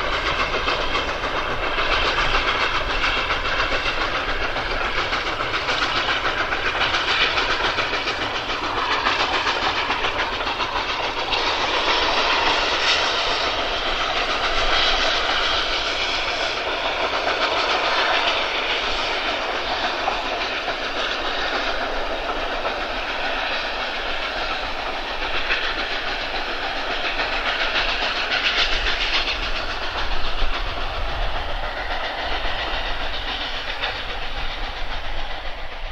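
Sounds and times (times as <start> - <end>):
coaches running on rails: 0.0 - 35.9
steam locomotive exhaust beats: 0.0 - 35.9.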